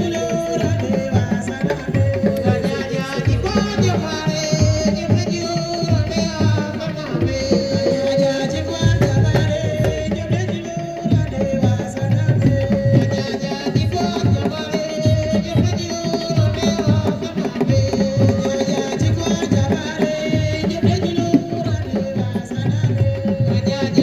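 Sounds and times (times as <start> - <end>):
hand drums beating: 0.0 - 24.0.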